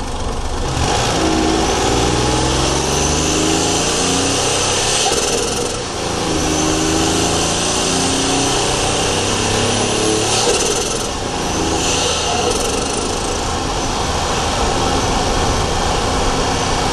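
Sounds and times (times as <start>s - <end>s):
car engine pulling under load: 0.0s - 16.9s.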